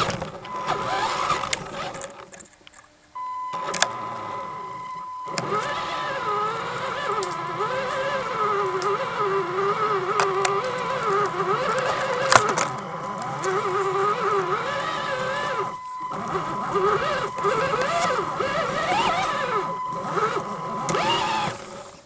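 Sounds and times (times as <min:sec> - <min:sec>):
toy truck motor whining: 0:00.0 - 0:02.4, 0:03.5 - 0:22.0.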